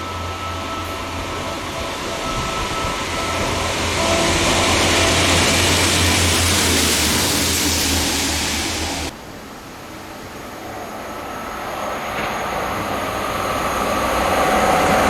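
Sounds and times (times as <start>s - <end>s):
train rushing past: 0.0s - 9.2s, 10.2s - 15.0s.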